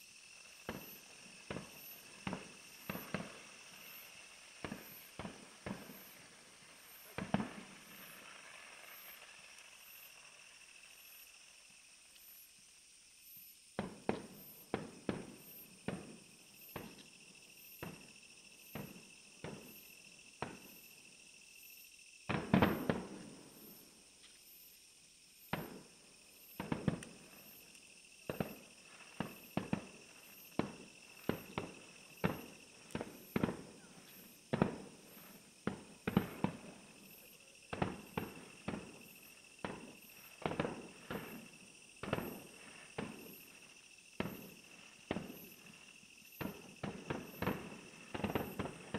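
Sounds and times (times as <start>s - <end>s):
fireworks bangs: 0.4s - 10.6s, 13.8s - 17.1s, 17.7s - 20.8s, 22.3s - 23.8s, 25.5s - 48.9s.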